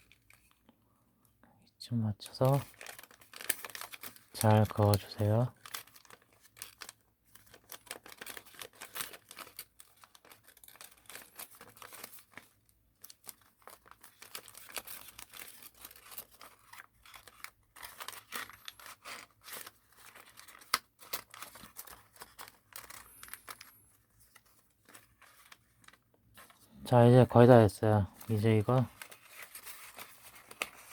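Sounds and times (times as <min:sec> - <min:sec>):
paper rustling and crinkling: 0:00.0 - 0:00.6, 0:02.4 - 0:30.9.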